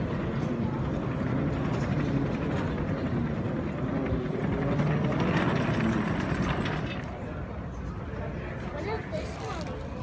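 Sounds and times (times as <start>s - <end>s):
faint indistinct voices: 0.0s - 10.0s.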